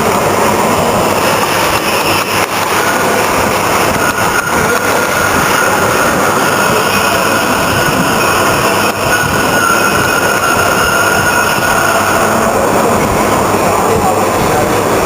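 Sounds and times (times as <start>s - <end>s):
drilling machine running: 0.0s - 15.0s
high gear whine: 0.0s - 15.0s.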